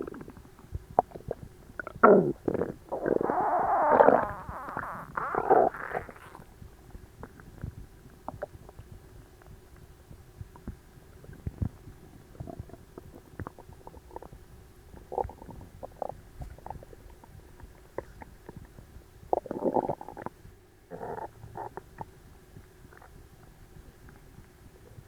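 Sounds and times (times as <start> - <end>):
stomach gurgling: 0.0 - 25.0.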